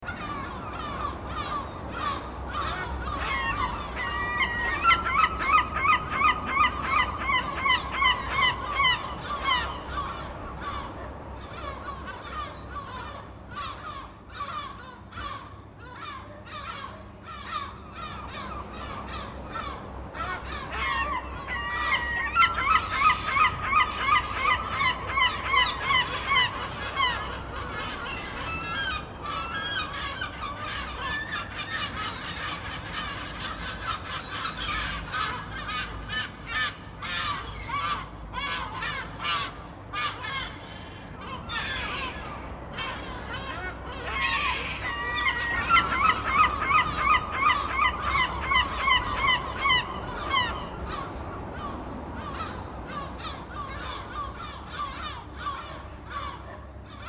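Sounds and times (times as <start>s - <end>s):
seagulls squawking: 0.0s - 57.0s.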